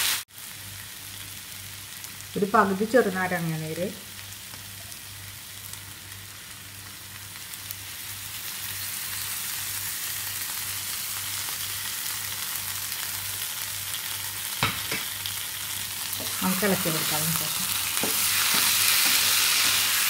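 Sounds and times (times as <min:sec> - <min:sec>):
liver sizzling in frying pan: 0:00.0 - 0:20.0.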